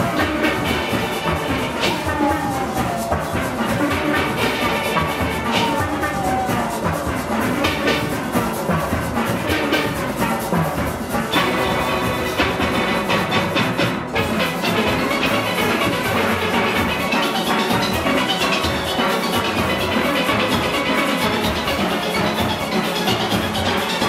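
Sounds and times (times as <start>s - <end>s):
percussion beat: 0.0s - 24.0s.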